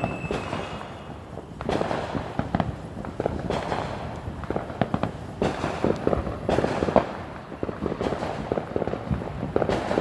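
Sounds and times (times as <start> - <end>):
fireworks bangs: 0.0 - 10.0
fireworks popping and crackling: 0.0 - 10.0.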